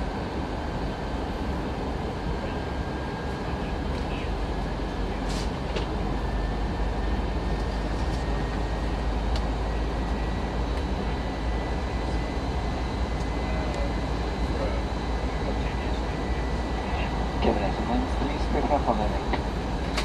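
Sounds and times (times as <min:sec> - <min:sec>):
airplane cabin drone: 0:00.0 - 0:20.0
faint steady whine: 0:00.0 - 0:20.0.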